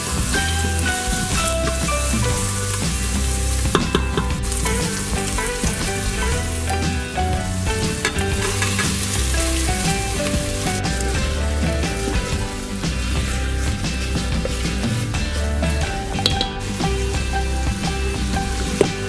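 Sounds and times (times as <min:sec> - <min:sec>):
background music: 0:00.0 - 0:19.0
onion sizzling in oil: 0:00.0 - 0:19.0.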